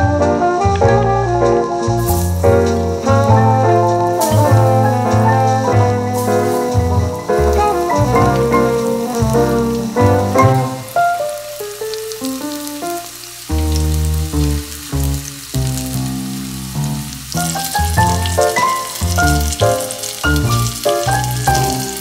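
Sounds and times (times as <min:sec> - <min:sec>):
background music: 0:00.0 - 0:22.0
chicken sizzling in oil: 0:00.0 - 0:22.0.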